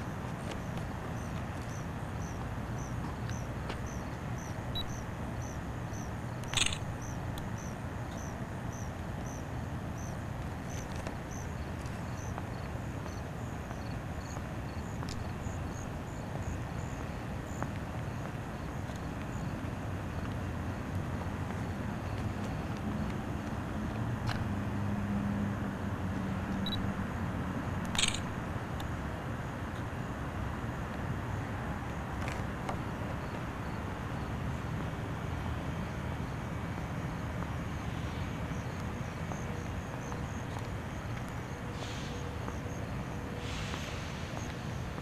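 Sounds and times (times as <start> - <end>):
low night rumble: 0.0 - 45.0.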